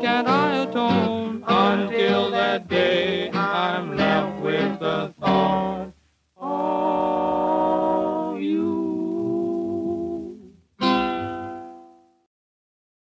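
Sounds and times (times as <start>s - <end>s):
voices singing in harmony: 0.0s - 10.7s.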